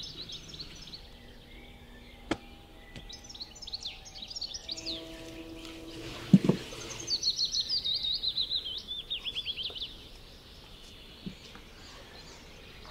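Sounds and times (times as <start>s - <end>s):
songbird singing downward notes: 0.0s - 12.9s.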